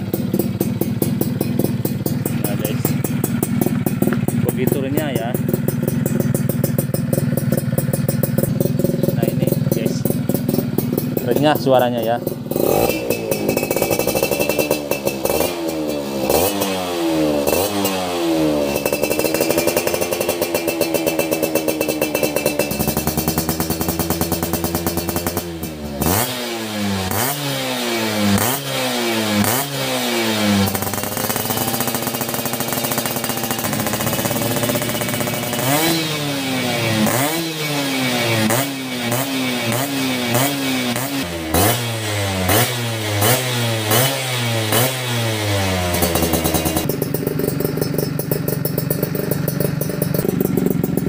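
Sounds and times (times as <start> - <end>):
two-stroke engine revving: 0.0 - 51.0.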